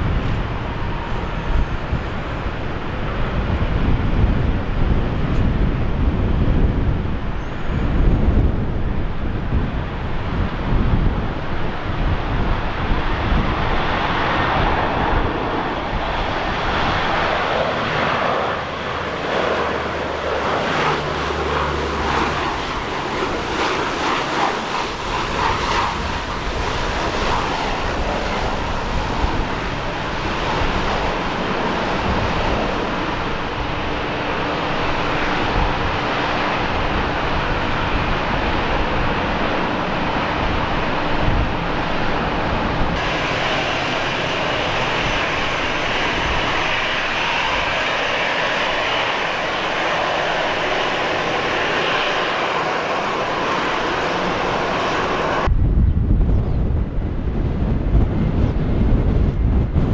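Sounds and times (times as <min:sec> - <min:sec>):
airliner engines roaring: 0:00.0 - 0:59.9
wind gusting on microphone: 0:00.0 - 0:59.9.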